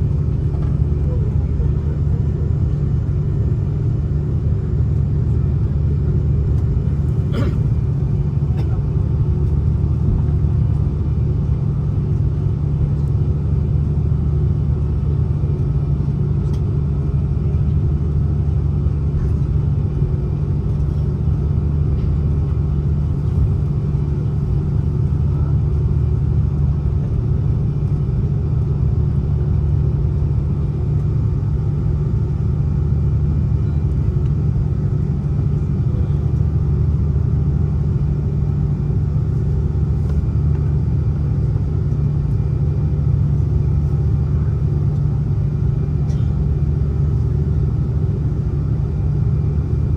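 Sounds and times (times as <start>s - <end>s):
airliner cabin engine rumble: 0.0s - 49.9s.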